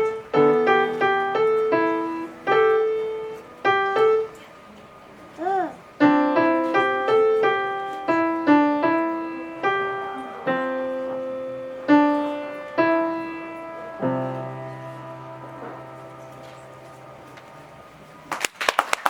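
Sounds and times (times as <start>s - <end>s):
solo piano piece: 0.0s - 18.3s.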